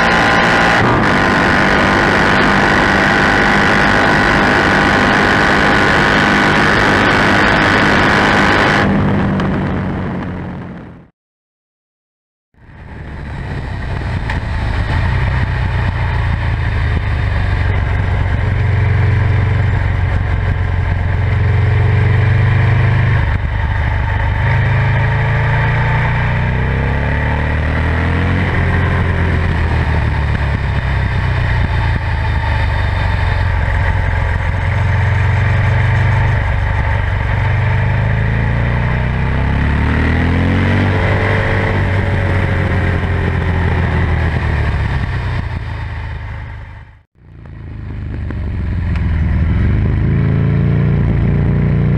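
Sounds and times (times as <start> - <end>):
motorcycle engine revving: 0.0 - 11.1, 12.6 - 51.9.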